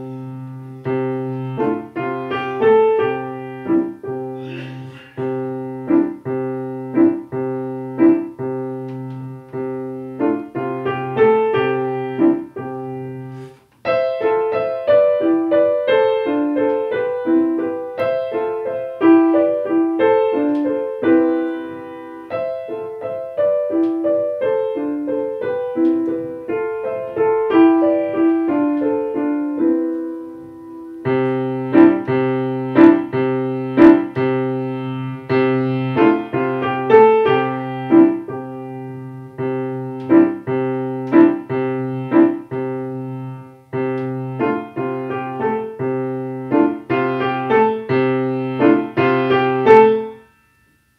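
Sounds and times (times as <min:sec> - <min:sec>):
grand piano solo: 0:00.0 - 0:50.2.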